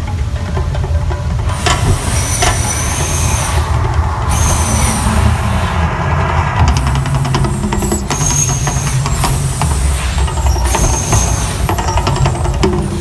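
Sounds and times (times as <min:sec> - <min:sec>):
deep steady rumble: 0:00.5 - 0:13.0
hiss: 0:01.4 - 0:13.0.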